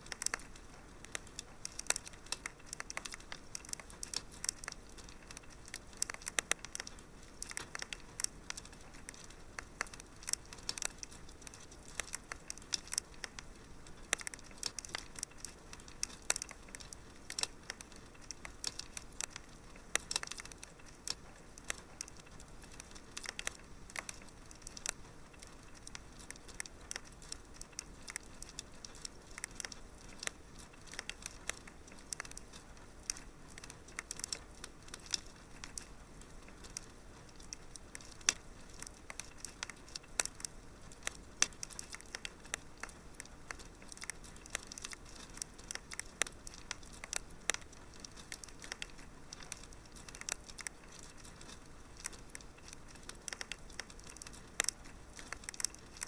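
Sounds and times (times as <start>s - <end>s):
faint background noise: 0.0s - 56.0s
wood fire crackling: 0.0s - 56.0s.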